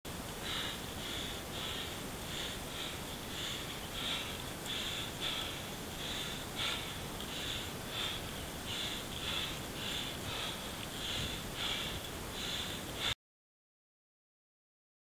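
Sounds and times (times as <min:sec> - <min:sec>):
wind and road noise hiss: 0:00.1 - 0:13.2
cyclist panting: 0:00.2 - 0:13.2.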